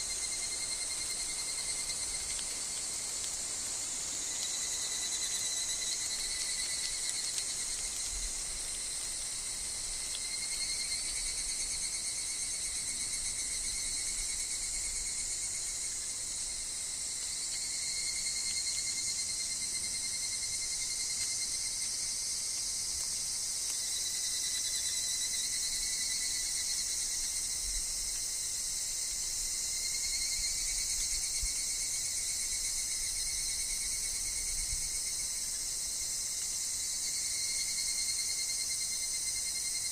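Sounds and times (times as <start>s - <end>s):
cicadas and insects buzzing: 0.0s - 39.9s.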